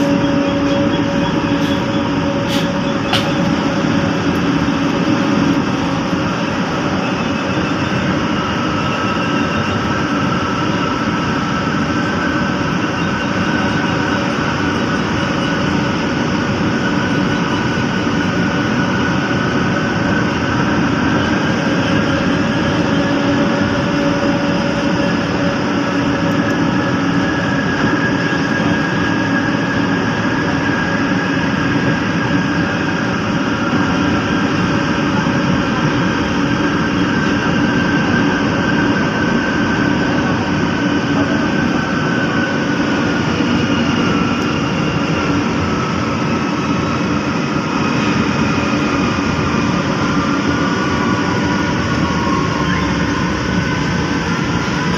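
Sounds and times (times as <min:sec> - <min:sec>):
train wheels and motors rumbling: 0:00.0 - 0:54.9.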